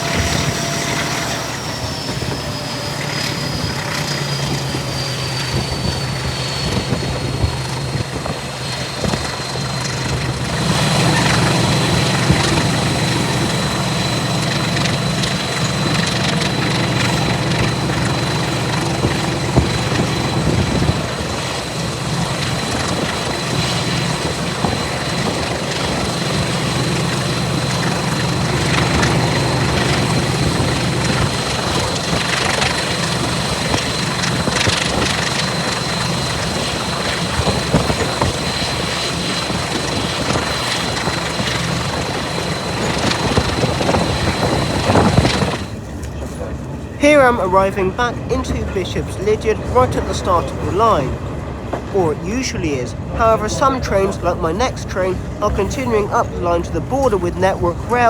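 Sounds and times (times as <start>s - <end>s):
diesel locomotive engine drone: 0.0s - 58.0s
wheel and rail noise: 0.0s - 58.0s.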